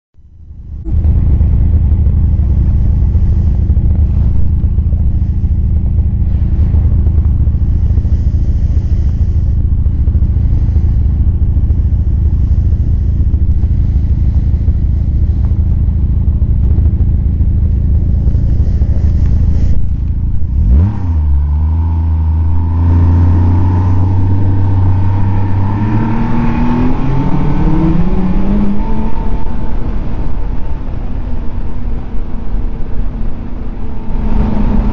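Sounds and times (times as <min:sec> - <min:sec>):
snowmobile engine running: 0:00.4 - 0:34.9.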